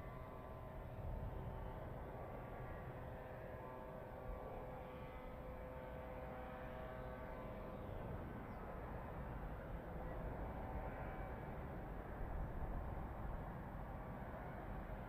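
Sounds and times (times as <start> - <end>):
low rumble of volcanic eruption: 0.0 - 15.0.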